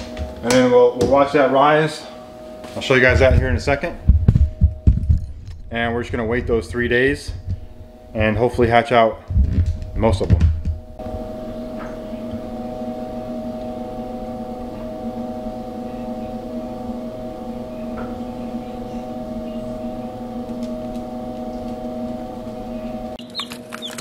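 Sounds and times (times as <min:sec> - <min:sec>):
incubator fan motor humming: 0:00.0 - 0:24.0.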